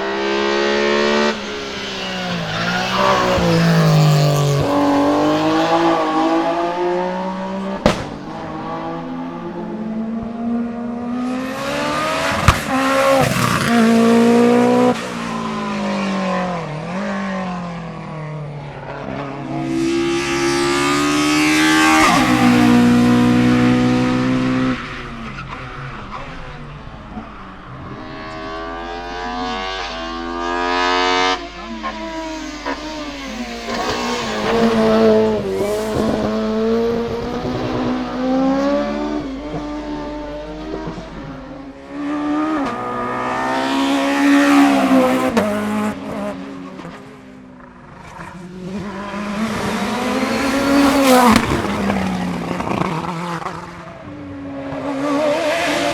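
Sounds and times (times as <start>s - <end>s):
race car engines revving: 0.0s - 55.9s.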